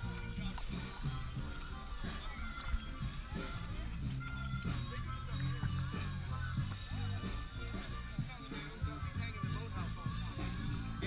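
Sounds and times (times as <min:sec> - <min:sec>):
music with bass and melody: 0:00.0 - 0:11.0.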